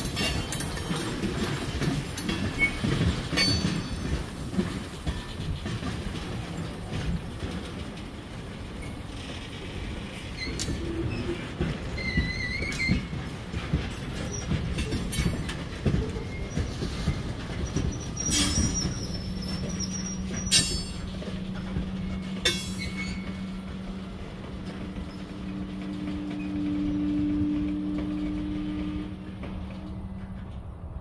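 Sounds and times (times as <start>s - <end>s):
wheel clanks: 0.0s - 30.7s
train rumble: 0.0s - 31.0s.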